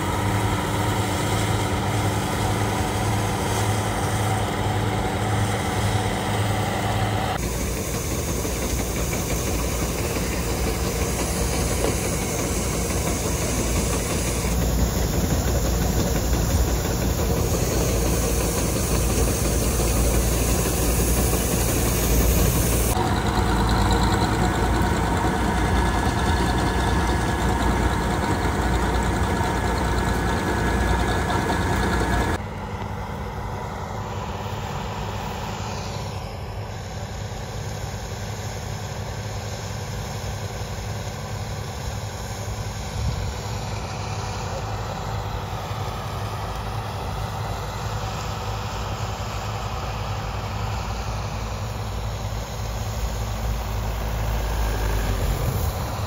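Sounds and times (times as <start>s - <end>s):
combine harvester engine: 0.0s - 56.0s.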